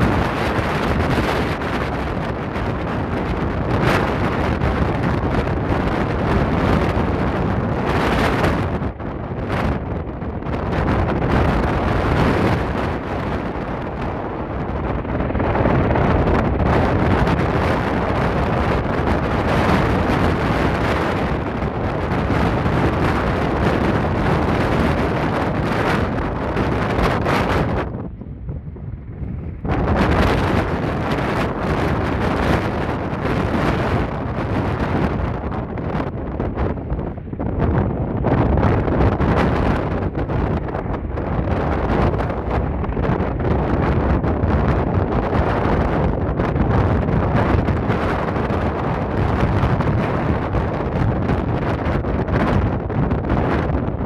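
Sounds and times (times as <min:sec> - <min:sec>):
tiltrotor aircraft flying overhead: 0:00.0 - 0:54.0
wind buffeting microphone: 0:00.0 - 0:54.0.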